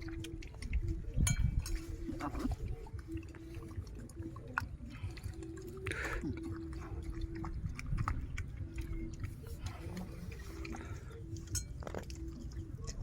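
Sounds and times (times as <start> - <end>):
chewing and mouth sounds: 0.0 - 13.0.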